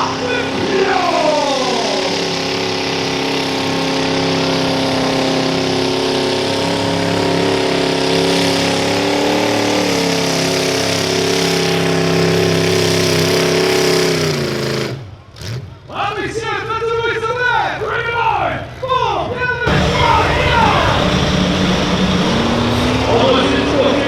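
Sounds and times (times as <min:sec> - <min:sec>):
tractor engine at high revs: 0:00.0 - 0:15.8, 0:19.7 - 0:24.0.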